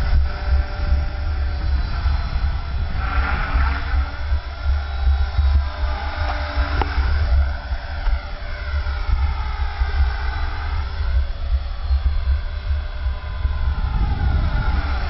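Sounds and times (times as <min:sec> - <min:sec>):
low rumble: 0:00.0 - 0:15.0
rc helicopter motor whine: 0:00.0 - 0:15.0.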